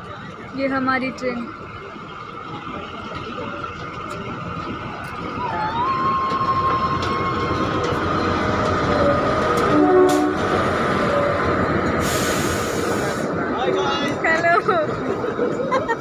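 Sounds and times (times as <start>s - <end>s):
diesel train rumbling past: 0.0s - 16.0s.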